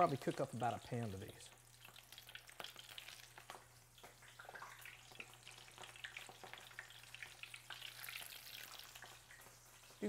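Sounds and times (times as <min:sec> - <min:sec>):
deep-frying crackling and popping: 0:00.0 - 0:10.0.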